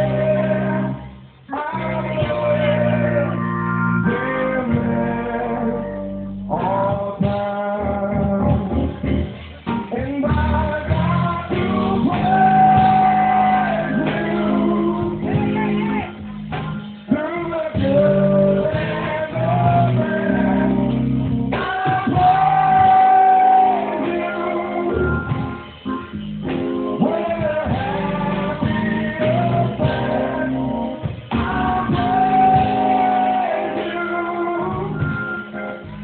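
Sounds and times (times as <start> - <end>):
church singing: 0.0 - 8.8, 10.0 - 16.4, 17.0 - 26.2, 26.8 - 36.0
instrumental accompaniment with bass: 0.0 - 36.0.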